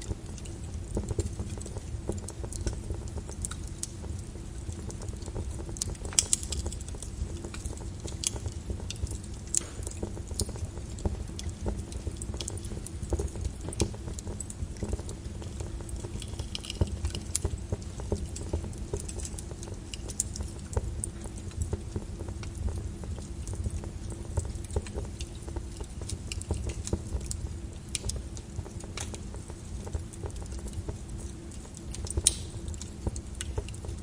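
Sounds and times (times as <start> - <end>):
lava crackling and popping: 0.0 - 34.0.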